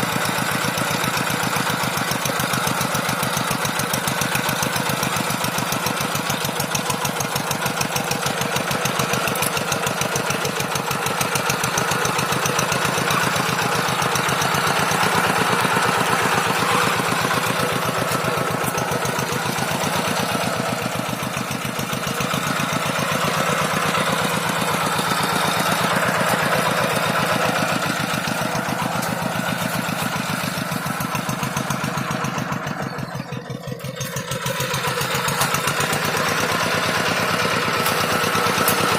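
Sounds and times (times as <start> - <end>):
tractor diesel engine knocking: 0.0 - 38.9.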